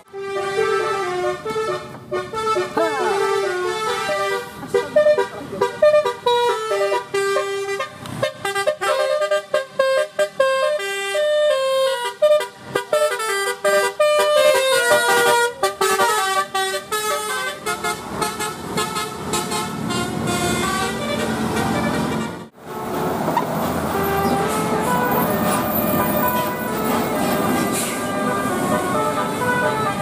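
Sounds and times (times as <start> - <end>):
bus horn playing a tune: 0.0 - 30.0
bus rumbling past: 0.0 - 30.0.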